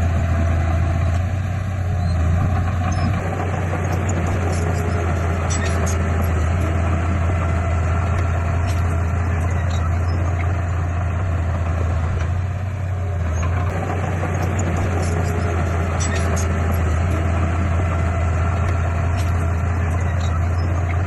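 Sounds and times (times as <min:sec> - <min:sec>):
heavy diesel engine droning: 0:00.0 - 0:21.0.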